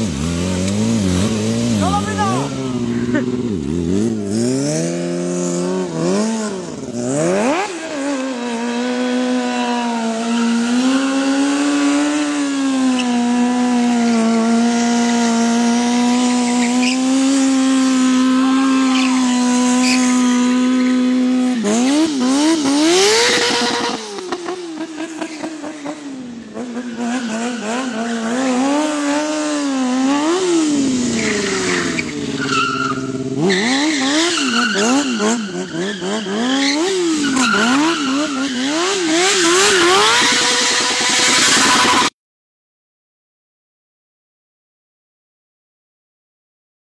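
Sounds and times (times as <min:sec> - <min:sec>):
tyres skidding: 0:00.0 - 0:42.1
motorcycle engine revving: 0:00.0 - 0:42.2.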